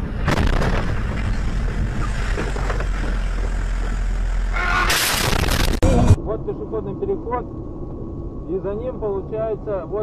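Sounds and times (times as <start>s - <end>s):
rush of noise: 0.0s - 10.0s
vehicle driving low rumble: 0.0s - 10.0s.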